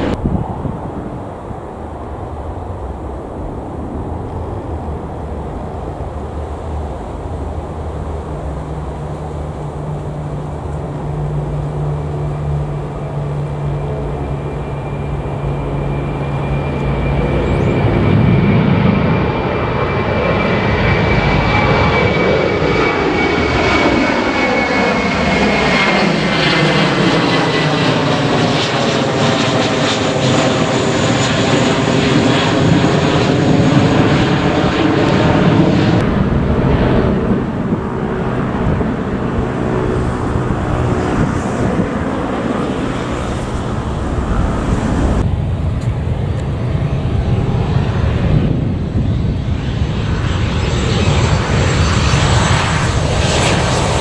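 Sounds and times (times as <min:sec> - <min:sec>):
high falling whine: 0:00.0 - 0:54.0
jet engine roar: 0:00.0 - 0:54.0.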